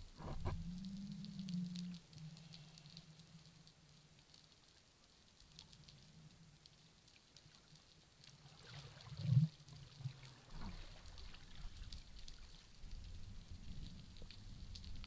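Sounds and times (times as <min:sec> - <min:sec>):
low water noise: 0:00.0 - 0:15.0
underwater clicks and crackles: 0:00.0 - 0:15.0.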